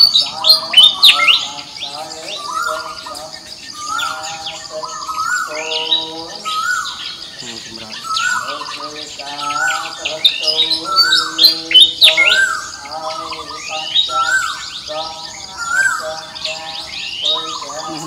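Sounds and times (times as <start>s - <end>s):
birds chirping and whistling: 0.0s - 18.0s
harsh squawking bird call: 0.0s - 18.0s.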